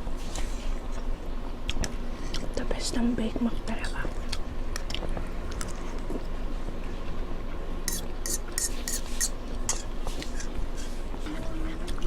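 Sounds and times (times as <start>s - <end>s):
crackly eating sounds: 0.0s - 2.6s, 3.8s - 12.0s
steady low hum: 0.0s - 12.0s.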